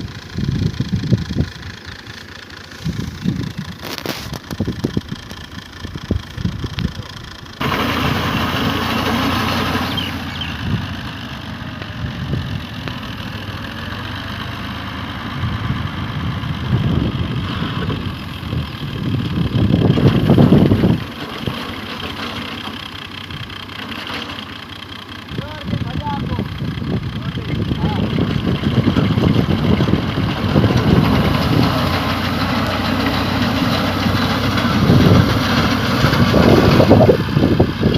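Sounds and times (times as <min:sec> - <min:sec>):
harvester engine running: 0:00.0 - 0:37.9.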